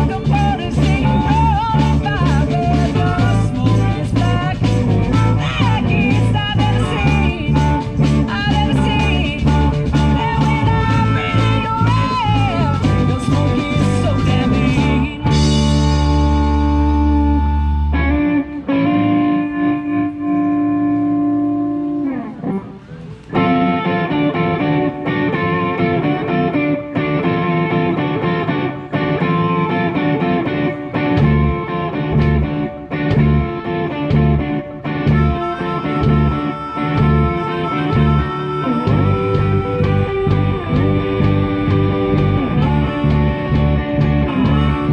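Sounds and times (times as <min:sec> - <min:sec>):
bass guitar: 0:00.0 - 0:44.9
drums: 0:00.0 - 0:44.9
electric guitars: 0:00.0 - 0:44.9.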